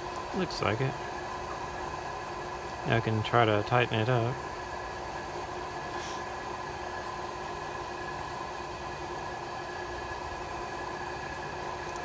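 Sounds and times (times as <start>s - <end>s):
machine hum with held tones: 0.0s - 12.0s.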